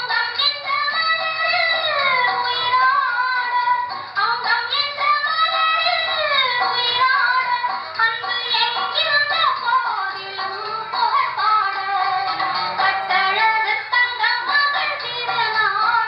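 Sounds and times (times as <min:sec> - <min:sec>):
instrumental backing: 0:00.0 - 0:16.0
woman singing: 0:00.0 - 0:16.0.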